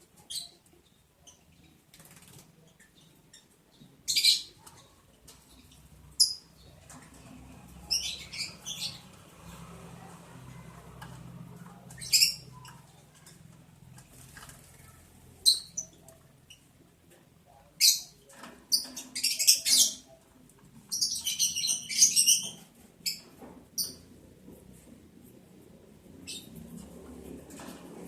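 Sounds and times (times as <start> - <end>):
lovebirds chirping: 0.1 - 9.6, 11.0 - 24.1.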